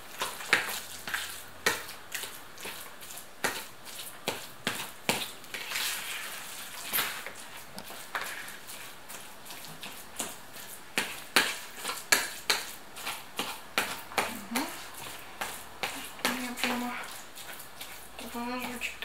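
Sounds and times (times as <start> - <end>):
curd squishing: 0.0 - 19.0.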